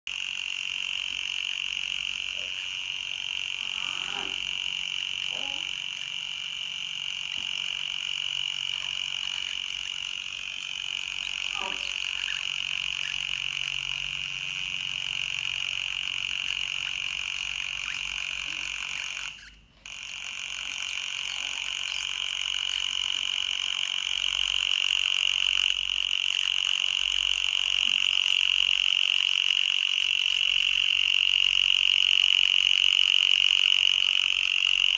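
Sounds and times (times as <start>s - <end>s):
fainter higher electronic tone: 0.1s - 34.9s
high-pitched electronic tone: 0.1s - 34.9s.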